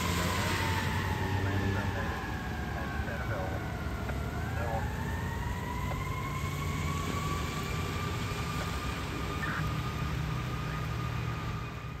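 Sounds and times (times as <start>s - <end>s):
fire siren steady tone: 0.0s - 12.0s
traffic engine rumble: 0.0s - 12.0s.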